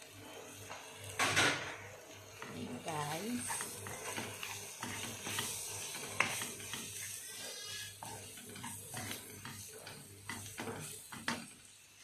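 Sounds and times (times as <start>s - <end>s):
food sizzling in a frying pan: 0.0s - 12.0s
spatula scraping and knocking pan: 0.4s - 11.7s.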